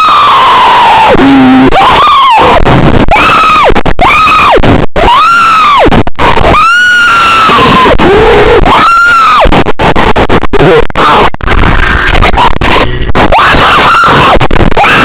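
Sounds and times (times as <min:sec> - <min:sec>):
distorted wailing alarm tones: 0:00.0 - 0:15.0.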